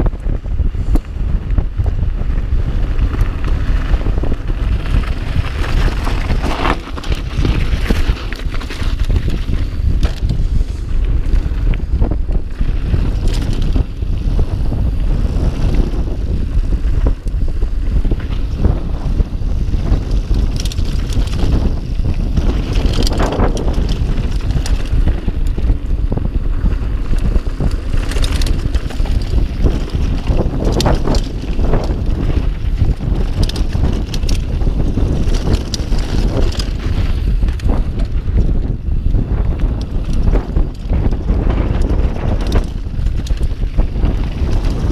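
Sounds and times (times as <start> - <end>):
bike rattling over bumps: 0.0 - 44.9
bike tyre noise: 0.0 - 44.9
wind rumble on microphone: 0.0 - 44.9.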